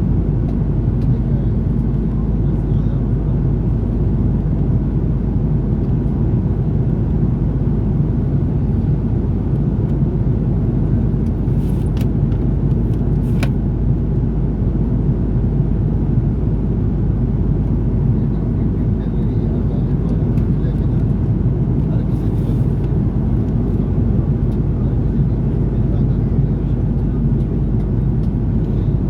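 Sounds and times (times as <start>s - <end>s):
airliner cabin rumble: 0.0s - 29.0s.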